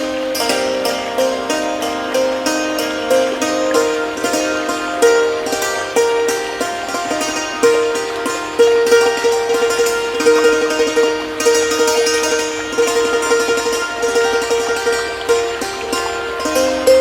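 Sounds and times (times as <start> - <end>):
hammered dulcimer melody: 0.0 - 17.0.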